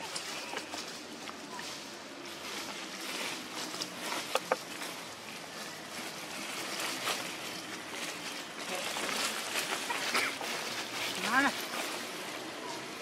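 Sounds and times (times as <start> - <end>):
dry leaves rustling: 0.0 - 13.0.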